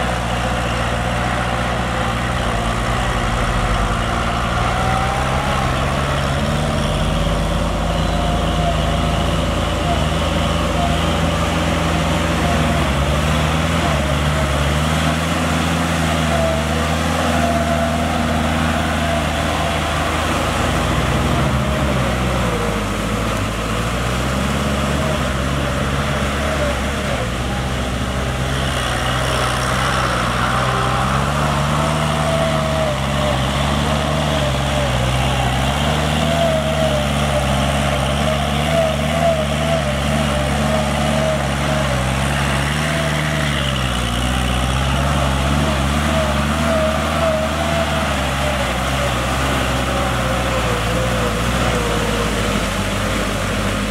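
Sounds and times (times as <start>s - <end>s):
rotary tiller churning mud: 0.0s - 53.9s
tractor diesel engine under load: 0.0s - 53.9s.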